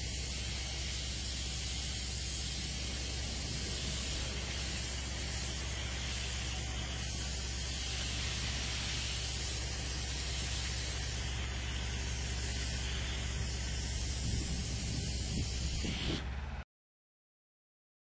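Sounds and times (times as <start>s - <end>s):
fire hose spraying water: 0.0s - 16.3s
truck engine humming: 0.0s - 16.6s.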